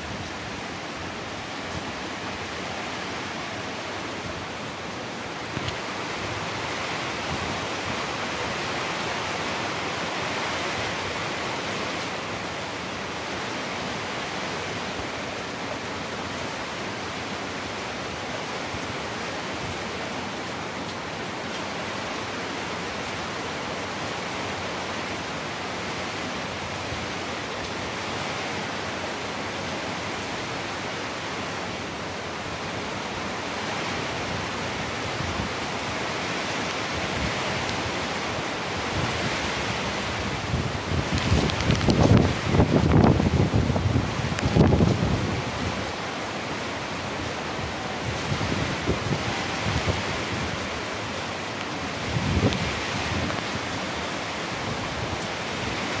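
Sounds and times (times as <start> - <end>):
heavy rain on metal roofs: 0.0 - 56.0.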